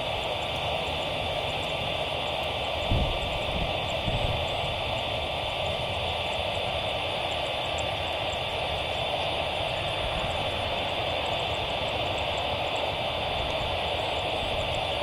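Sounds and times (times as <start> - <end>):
distant turboprop engines droning: 0.0 - 15.0.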